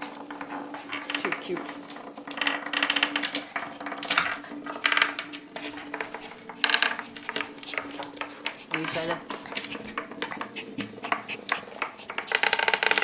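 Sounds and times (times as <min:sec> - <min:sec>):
vibrating toys buzzing and rattling: 0:00.0 - 0:13.0.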